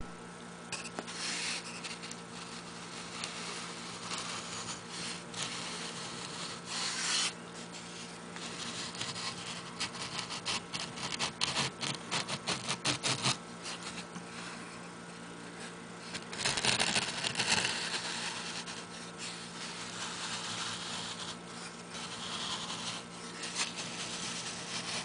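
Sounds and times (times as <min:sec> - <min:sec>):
rubbing and scraping: 0:00.8 - 0:14.9, 0:15.5 - 0:25.0
small electric motor humming: 0:00.8 - 0:25.0.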